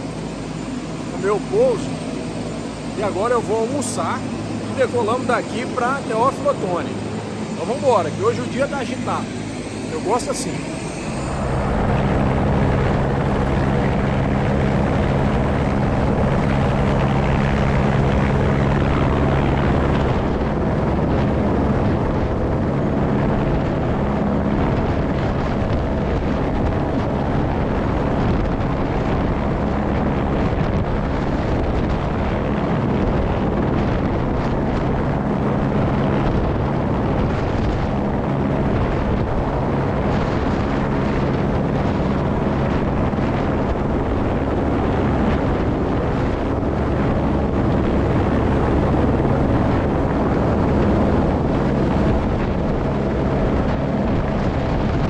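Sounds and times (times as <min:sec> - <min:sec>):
helicopter turbine and rotor: 0:00.0 - 0:55.0
low hum: 0:00.0 - 0:55.0.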